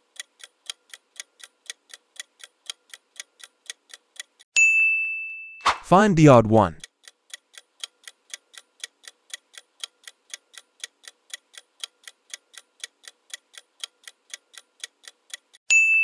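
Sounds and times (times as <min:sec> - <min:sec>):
clock ticking: 0:00.0 - 0:04.5, 0:05.9 - 0:15.6.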